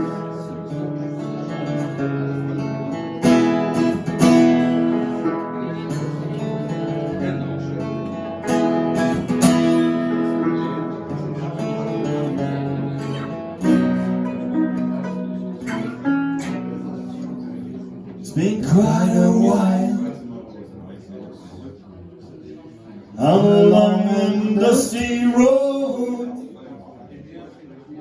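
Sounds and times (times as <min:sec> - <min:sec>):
acoustic guitars strumming: 0:00.0 - 0:20.2, 0:23.2 - 0:26.4.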